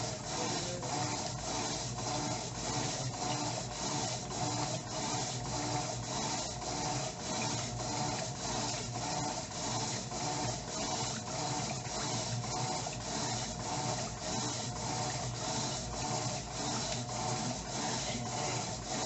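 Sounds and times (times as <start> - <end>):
washing machine agitating: 0.0 - 19.0
water and clothes churning: 0.0 - 19.0.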